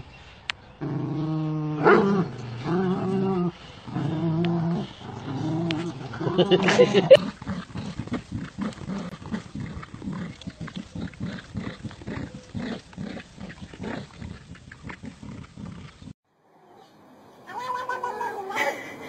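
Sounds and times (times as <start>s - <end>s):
dogs growling in play: 0.8s - 16.2s.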